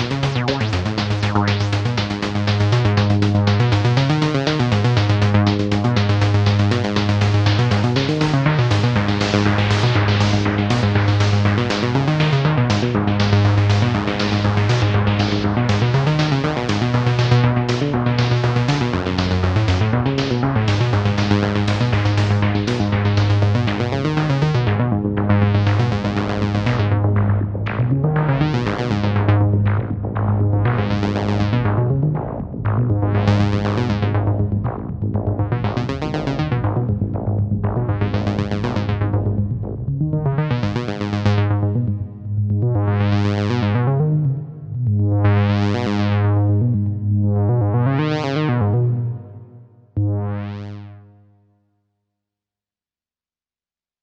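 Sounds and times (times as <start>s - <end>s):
analog synthesizer sequence: 0.0s - 51.2s.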